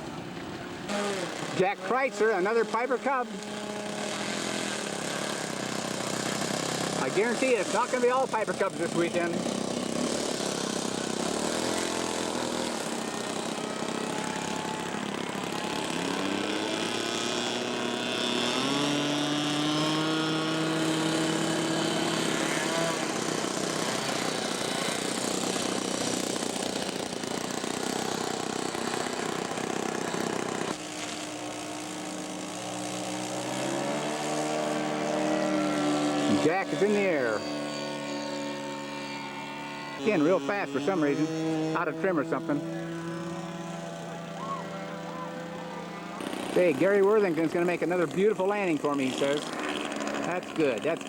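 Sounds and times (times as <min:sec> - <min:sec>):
model airplane engine revving: 0:00.0 - 0:51.0.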